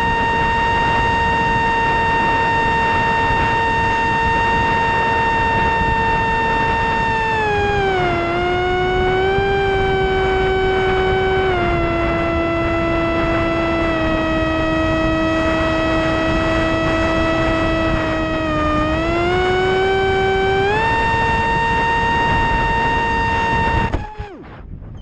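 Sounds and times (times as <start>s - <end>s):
electric motor and propeller whining: 0.0s - 25.0s.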